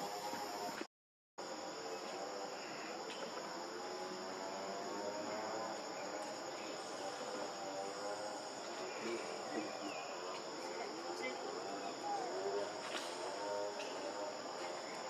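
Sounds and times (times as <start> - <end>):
high-pitched insect chorus: 0.0 - 15.0
faint voices: 1.5 - 15.0.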